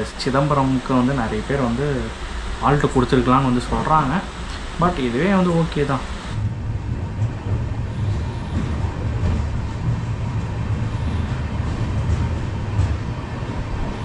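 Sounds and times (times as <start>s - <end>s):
train coach low rumble: 0.0s - 14.0s.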